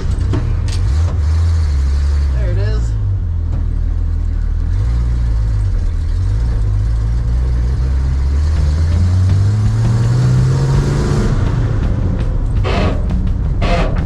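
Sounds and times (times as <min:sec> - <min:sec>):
van engine accelerating: 0:00.0 - 0:14.0.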